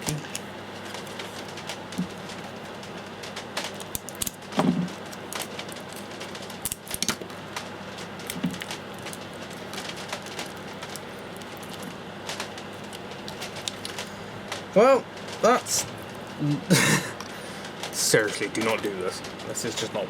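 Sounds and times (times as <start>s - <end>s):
tape crackling and clicking: 0.0s - 20.0s.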